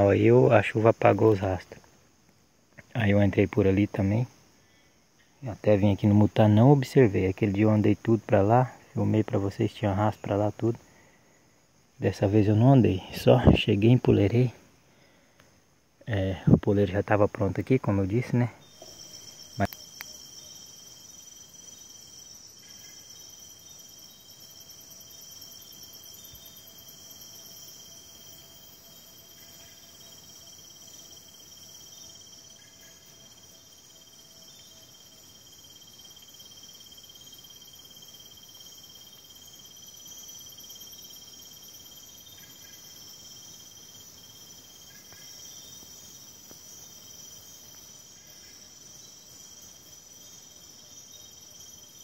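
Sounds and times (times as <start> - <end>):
crickets trilling: 0.0 - 52.0
faint short insect calls: 0.0 - 52.0.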